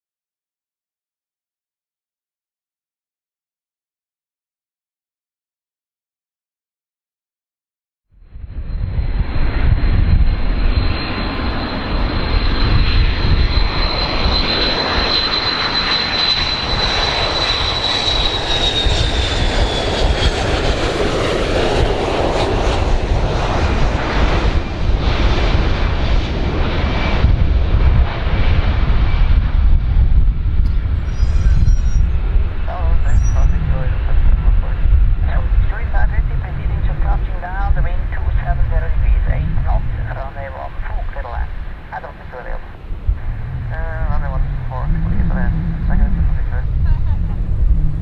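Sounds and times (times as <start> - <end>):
airplane engines running: 8.2 - 48.0
high engine whine: 8.2 - 48.0.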